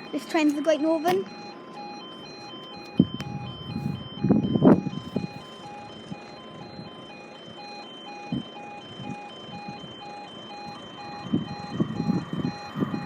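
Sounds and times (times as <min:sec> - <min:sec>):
two-tone crossing alarm: 0:00.0 - 0:13.0.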